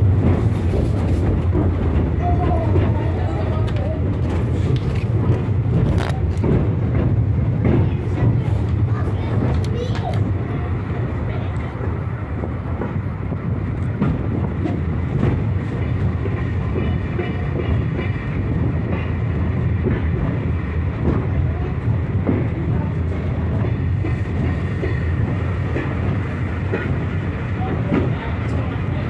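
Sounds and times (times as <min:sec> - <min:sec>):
train coach rumble: 0:00.0 - 0:29.0.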